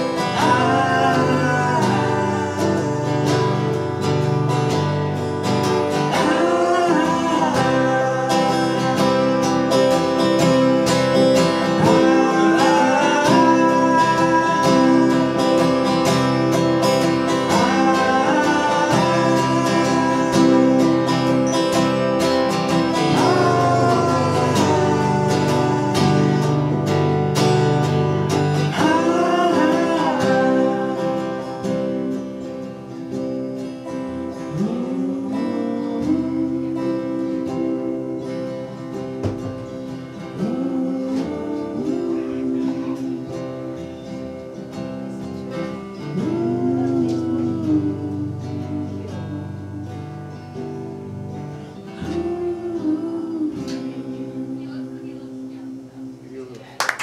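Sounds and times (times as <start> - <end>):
man singing: 0.0 - 56.4
guitars strumming: 0.0 - 57.0.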